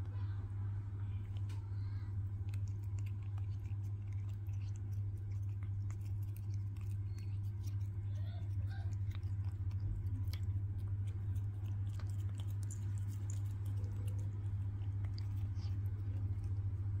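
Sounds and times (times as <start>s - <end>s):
steady low hum: 0.0s - 17.0s
cat chewing with crunching clicks: 2.2s - 17.0s.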